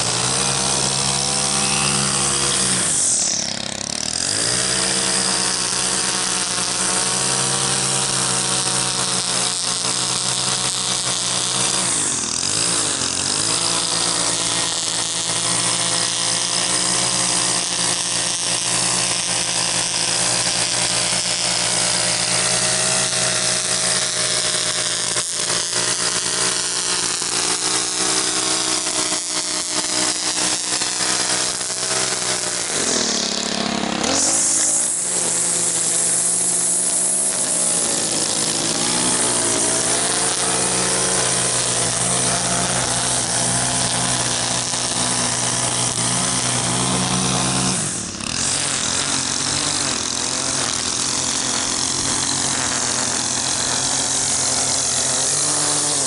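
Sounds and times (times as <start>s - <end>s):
string trimmer engine running: 0.0s - 56.0s.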